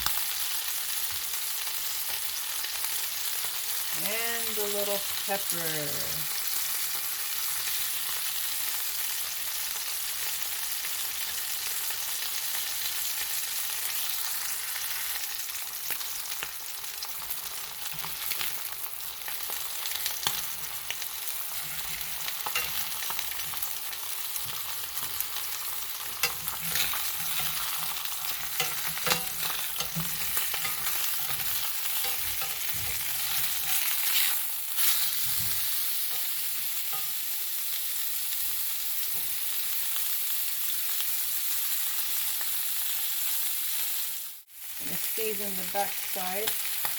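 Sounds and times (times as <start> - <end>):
chicken sizzling in oil: 0.0 - 46.9.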